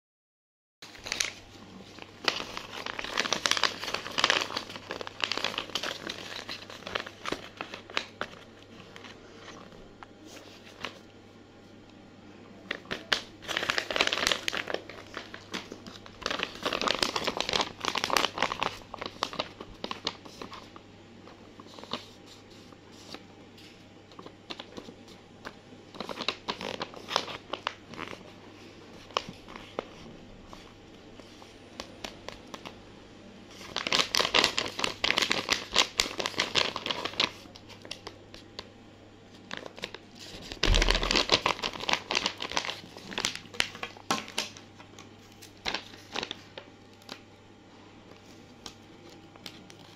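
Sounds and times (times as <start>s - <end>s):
paper bag crinkling: 0.8s - 11.0s, 12.6s - 25.2s, 25.9s - 32.7s, 33.5s - 38.7s, 39.3s - 47.2s
steady low hum: 0.9s - 49.9s.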